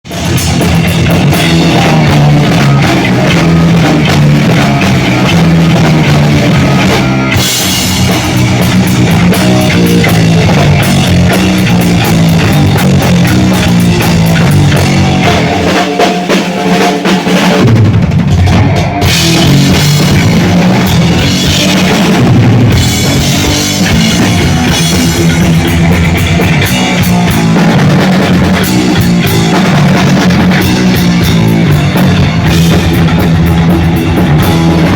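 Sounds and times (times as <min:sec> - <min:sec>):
drum kit played hard and fast: 0:00.0 - 0:34.9
live heavy metal music: 0:00.0 - 0:34.9.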